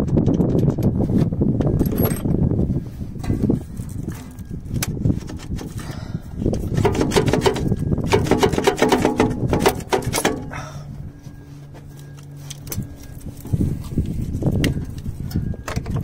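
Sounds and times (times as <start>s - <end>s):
faint steady hum: 1.6s - 16.0s.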